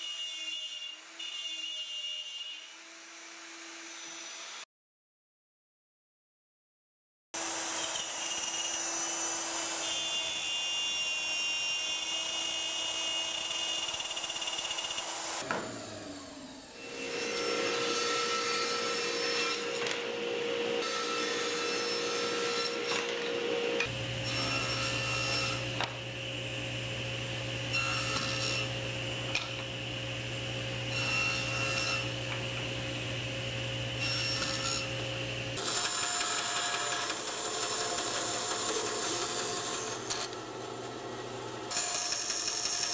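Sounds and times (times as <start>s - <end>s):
router cutting wood: 0.0s - 4.7s, 7.4s - 42.9s
table saw cutting boards: 0.0s - 4.7s, 7.4s - 42.9s
bandsaw cutting wood: 7.4s - 42.9s.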